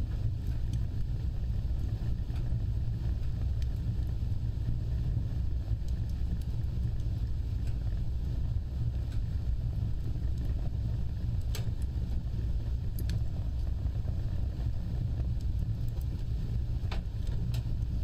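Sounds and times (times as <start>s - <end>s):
fire crackles and pops: 0.0s - 18.0s
fire rumbling: 0.0s - 18.0s.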